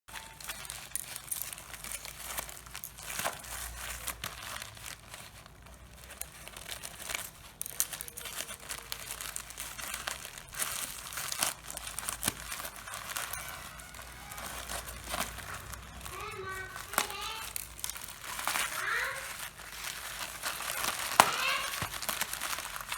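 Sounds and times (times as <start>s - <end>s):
plastic and paper packaging crinkling: 0.1s - 22.9s.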